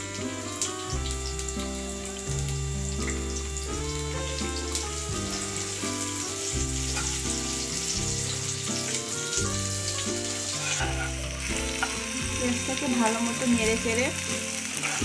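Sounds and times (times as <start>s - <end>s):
background music of held notes: 0.0s - 15.0s
onions sizzling in hot oil: 0.0s - 15.0s.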